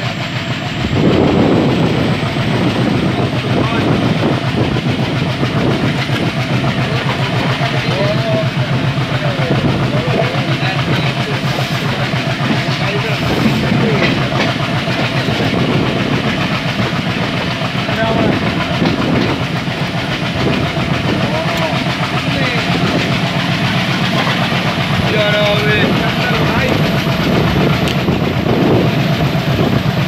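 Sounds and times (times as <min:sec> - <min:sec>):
diesel locomotive chugging: 0:00.0 - 0:30.0
wheels clattering on rails: 0:00.0 - 0:30.0.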